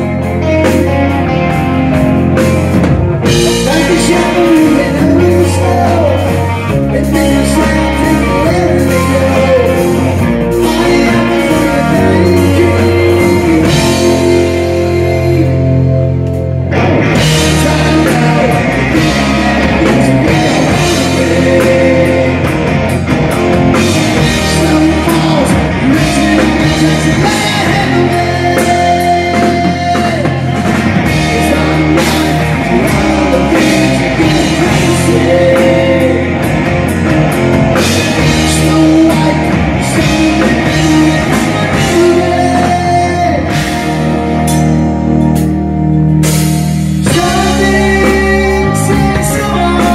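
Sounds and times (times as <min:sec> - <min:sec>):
live rock band: 0:00.0 - 0:49.9.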